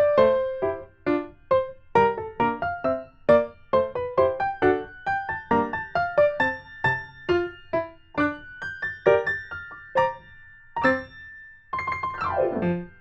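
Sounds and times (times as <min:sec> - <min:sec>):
bouncy electric piano melody: 0:00.0 - 0:13.0.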